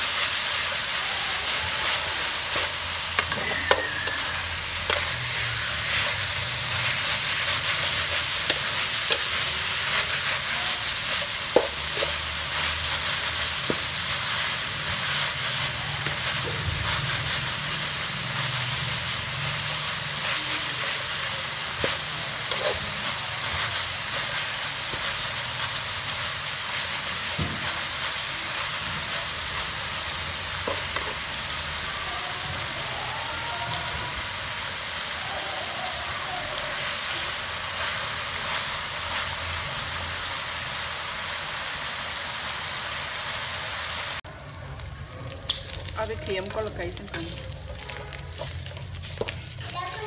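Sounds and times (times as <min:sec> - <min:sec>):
chicken sizzling in a wok: 0:00.0 - 0:50.0.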